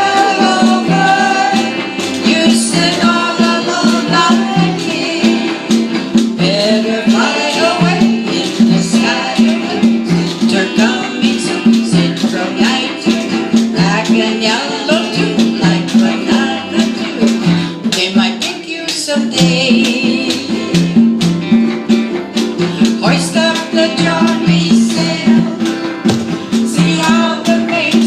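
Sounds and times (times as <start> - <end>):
congas: 0.0 - 28.0
plucked strings: 0.0 - 28.0
small band playing island music: 0.0 - 28.0
washboard rhythm: 0.0 - 28.0.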